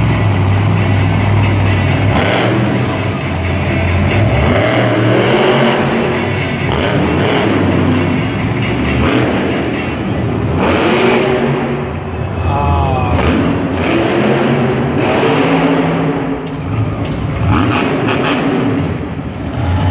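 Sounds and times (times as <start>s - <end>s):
monster truck engine revving: 0.0s - 19.9s.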